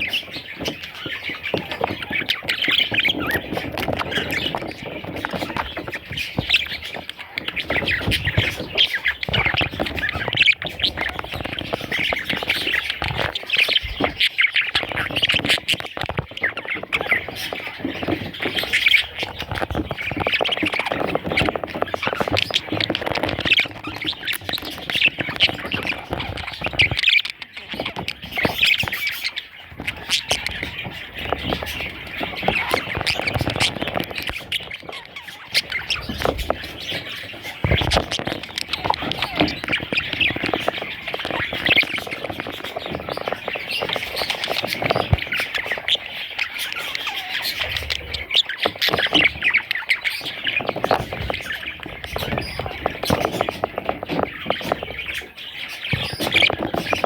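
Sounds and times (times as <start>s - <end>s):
budgerigars chattering and squawking: 0.0s - 57.0s.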